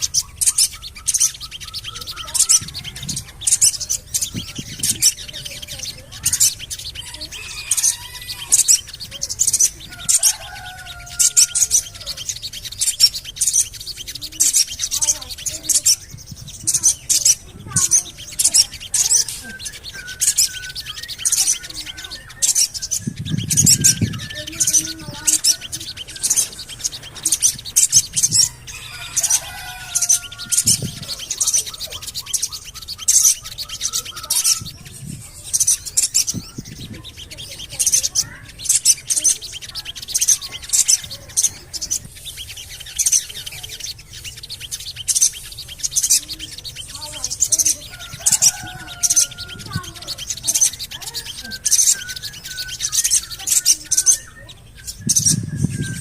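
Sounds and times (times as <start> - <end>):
bird chirping rapidly: 0.0 - 56.0.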